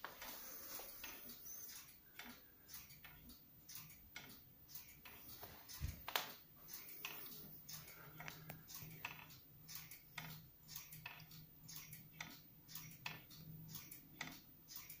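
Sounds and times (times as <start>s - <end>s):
wall clock ticking: 0.0s - 15.0s.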